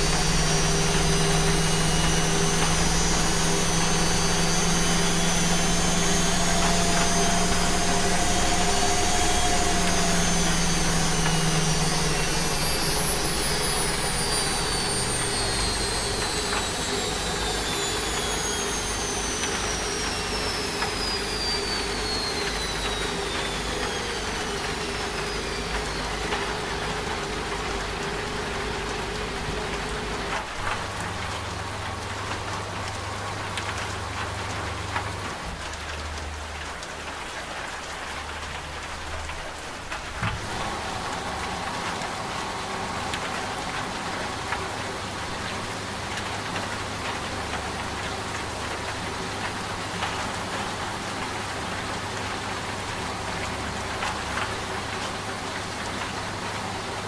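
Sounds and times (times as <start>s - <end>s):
rain hissing: 0.0s - 57.0s
washing machine drum winding down: 0.0s - 57.0s.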